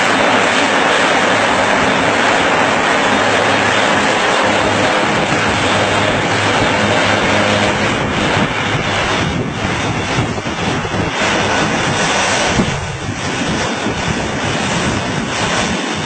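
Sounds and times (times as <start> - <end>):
propeller plane engine roaring: 0.0 - 16.0
wind rumbling on microphone: 0.0 - 16.0.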